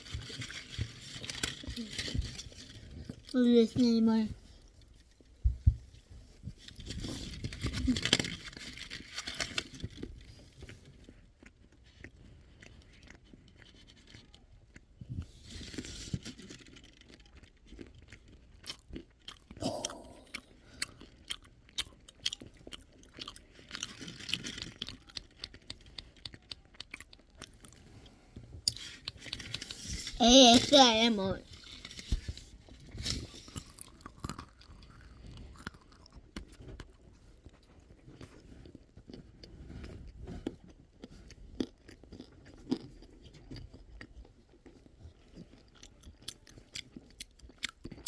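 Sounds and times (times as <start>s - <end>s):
chewing and crunching: 0.0s - 48.0s.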